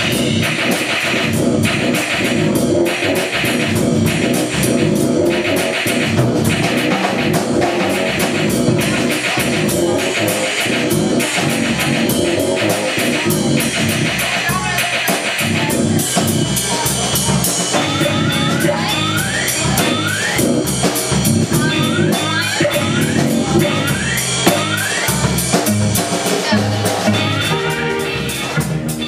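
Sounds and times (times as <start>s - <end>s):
drum kit with cymbals: 0.0s - 29.0s
keyboard playing: 0.0s - 29.0s.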